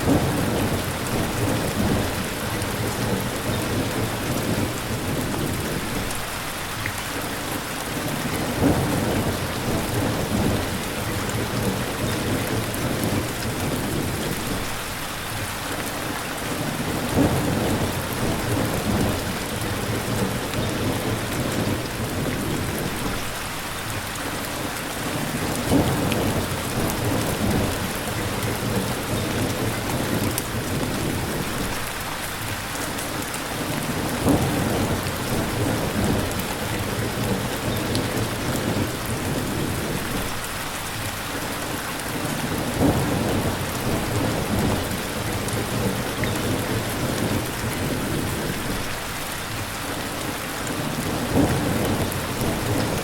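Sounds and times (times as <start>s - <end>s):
thunder rumbles: 0.0s - 6.2s, 8.0s - 14.8s, 16.6s - 23.4s, 25.1s - 31.8s, 33.6s - 40.4s, 42.2s - 49.0s, 50.7s - 53.0s
rain falling: 0.0s - 53.0s.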